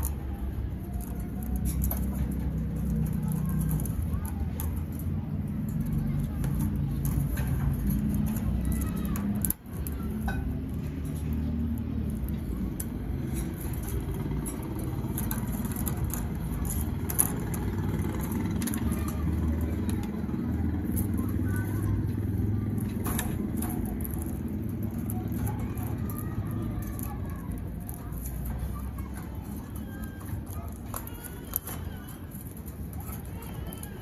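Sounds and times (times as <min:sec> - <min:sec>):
low rumble of city noise: 0:00.0 - 0:34.0.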